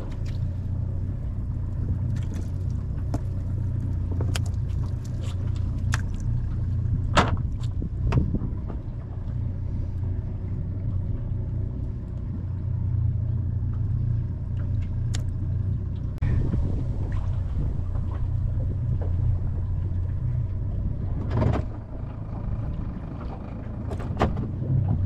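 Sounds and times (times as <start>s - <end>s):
boat motor idling: 0.0s - 25.0s.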